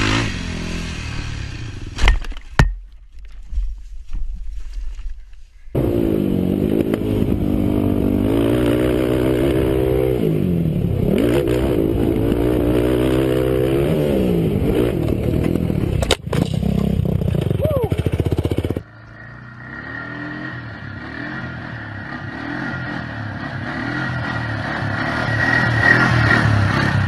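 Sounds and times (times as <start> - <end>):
quad engine revving: 0.0 - 1.9, 5.8 - 27.0.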